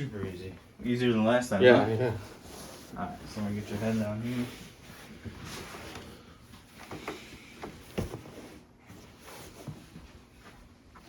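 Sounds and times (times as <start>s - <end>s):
rustling on padded table: 1.5s - 11.0s.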